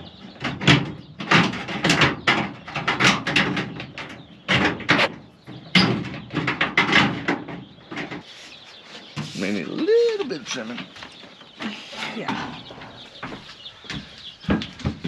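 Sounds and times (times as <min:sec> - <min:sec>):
scraping and knocking on wood: 0:00.0 - 0:09.6, 0:10.6 - 0:15.0.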